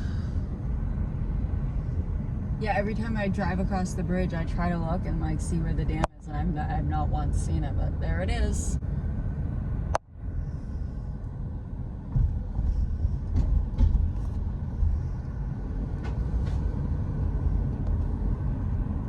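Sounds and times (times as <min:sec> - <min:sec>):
car road rumble inside cabin: 0:00.0 - 0:19.0.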